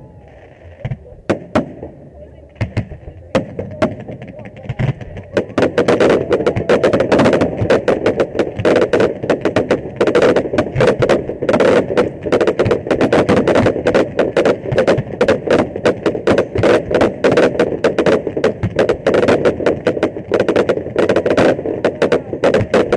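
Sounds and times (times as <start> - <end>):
fireworks bangs and crackling pops: 0.0 - 22.9.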